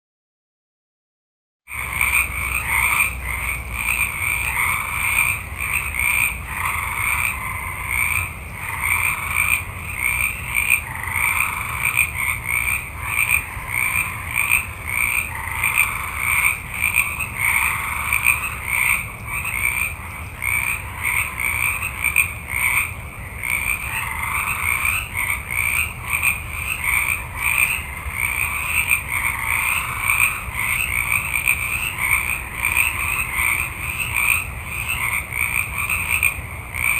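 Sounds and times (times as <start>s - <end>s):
frogs croaking: 1.7s - 36.9s.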